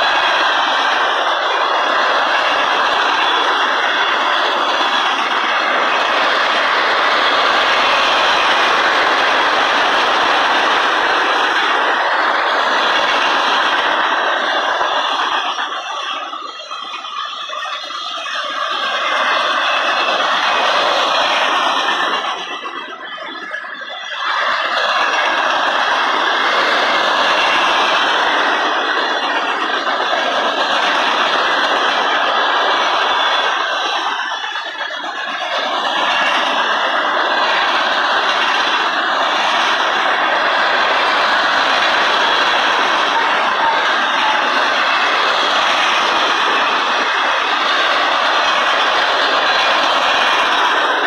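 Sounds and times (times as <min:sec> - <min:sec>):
freight train rolling by: 0:00.0 - 0:51.0
steel wheels running on rail: 0:00.0 - 0:51.0.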